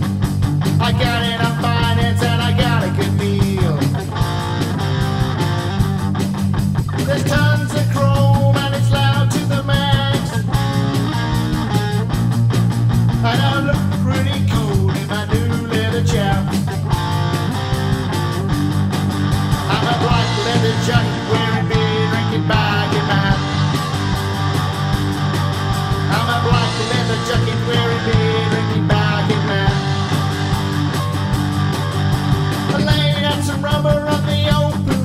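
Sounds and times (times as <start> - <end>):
punk rock song with guitar: 0.0 - 35.0.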